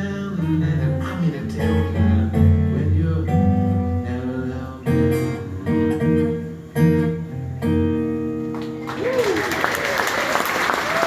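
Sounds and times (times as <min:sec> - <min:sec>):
acoustic guitar blues chords: 0:00.0 - 0:09.0.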